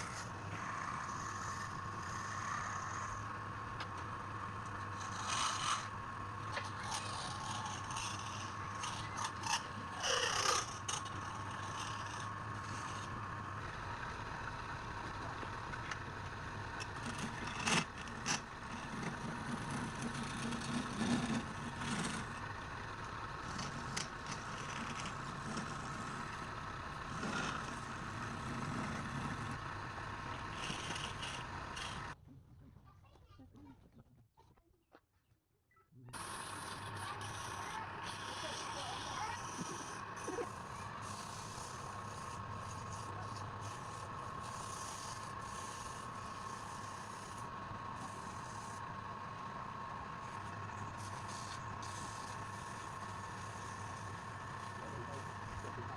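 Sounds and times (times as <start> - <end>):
tool scraping spinning wood: 0.0 - 32.2, 36.2 - 55.9
wood lathe running: 0.0 - 32.2, 36.2 - 55.9.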